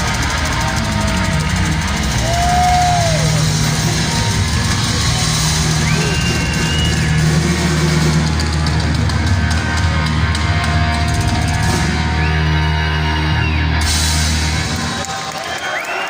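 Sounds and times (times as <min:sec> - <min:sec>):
distorted guitars and bass: 0:00.0 - 0:15.1
drums and crashing cymbals: 0:00.0 - 0:16.0.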